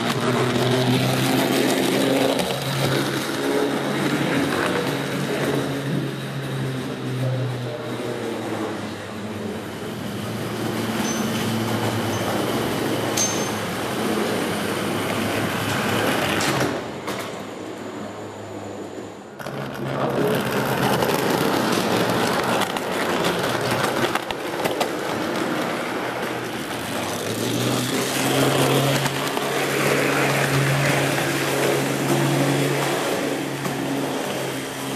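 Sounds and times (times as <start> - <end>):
wheels clicking on track: 0.0 - 34.9.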